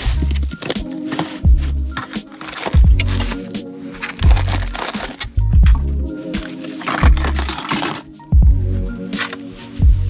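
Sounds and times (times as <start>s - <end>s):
music with deep bass beat: 0.0s - 10.0s.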